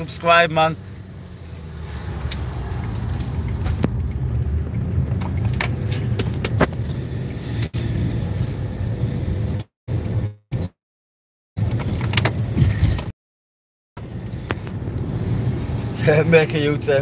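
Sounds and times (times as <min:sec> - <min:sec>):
car cabin road rumble: 0:00.0 - 0:10.7, 0:14.0 - 0:17.0.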